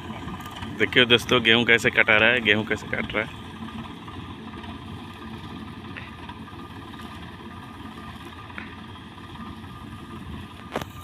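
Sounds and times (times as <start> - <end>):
harvester engine running: 0.0 - 11.0.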